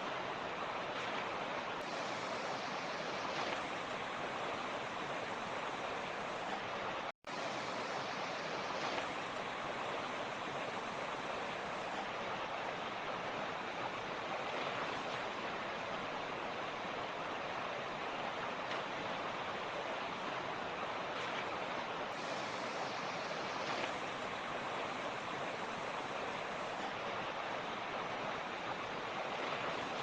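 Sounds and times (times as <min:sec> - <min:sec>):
creek water flowing: 0:00.0 - 0:30.0.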